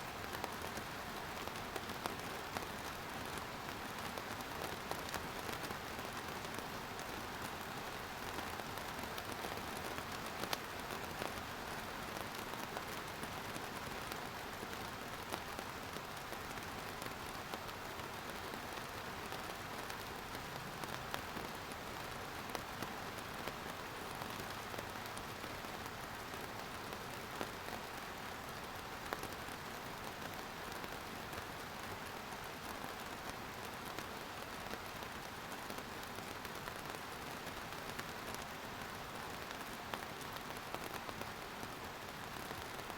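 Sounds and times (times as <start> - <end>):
raindrops ticking on surface: 0.0 - 42.9
steady rain: 0.0 - 42.9.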